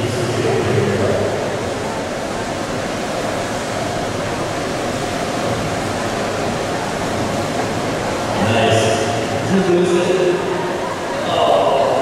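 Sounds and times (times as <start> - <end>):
water splashing from swimming strokes: 0.0 - 12.0.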